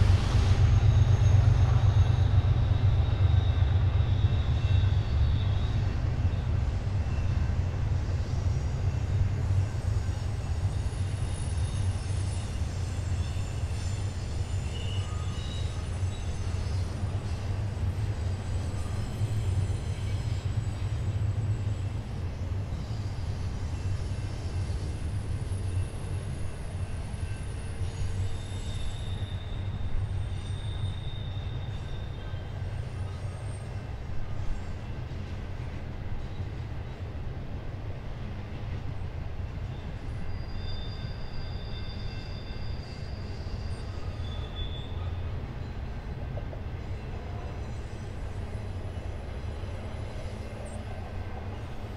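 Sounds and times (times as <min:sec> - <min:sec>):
freight train rumbling past: 0:00.0 - 0:51.9
train wheels squealing: 0:00.0 - 0:51.9.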